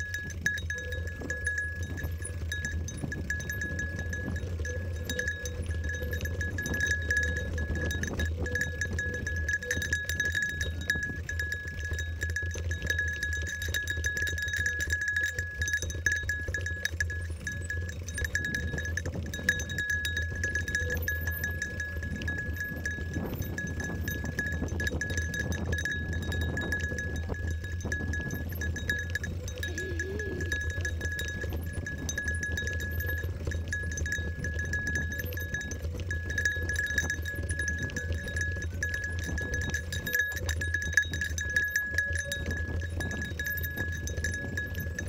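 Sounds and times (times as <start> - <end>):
bike rattling and clicking: 0.0 - 45.0
high ringing tone: 0.0 - 45.0.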